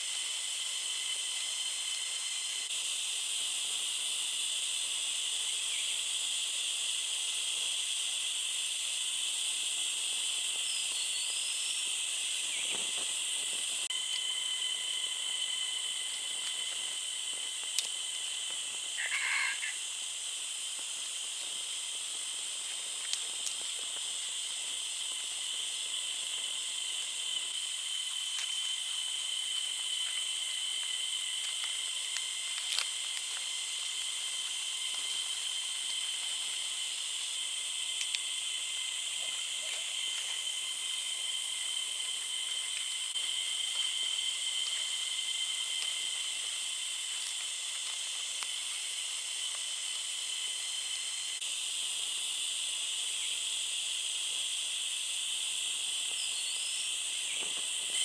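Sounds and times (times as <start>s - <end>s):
forest insects buzzing: 0.0s - 58.0s
light hiss: 0.0s - 58.0s.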